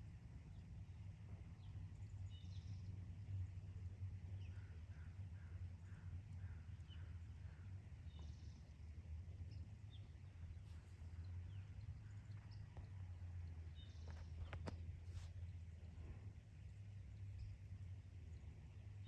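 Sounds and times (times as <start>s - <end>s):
steady low rumble: 0.0s - 19.0s
small birds chirping: 1.6s - 19.0s.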